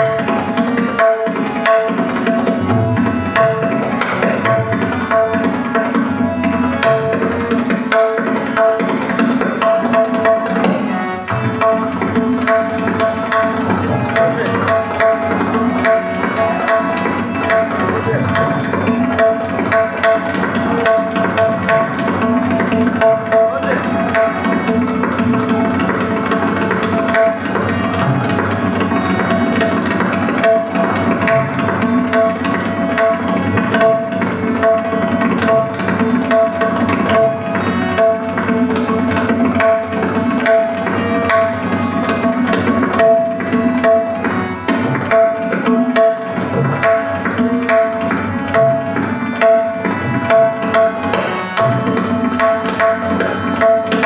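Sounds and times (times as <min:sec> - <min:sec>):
harmonium melody: 0:00.0 - 0:54.0
tabla strokes: 0:00.0 - 0:54.0.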